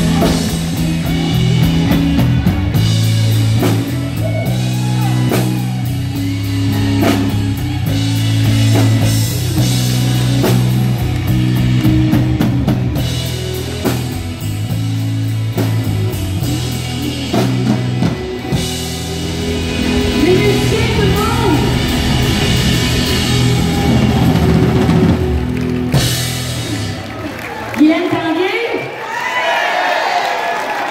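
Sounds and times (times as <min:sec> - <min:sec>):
drum kit: 0:00.0 - 0:27.6
bass guitar notes: 0:00.0 - 0:27.8
electric guitar: 0:00.0 - 0:28.3.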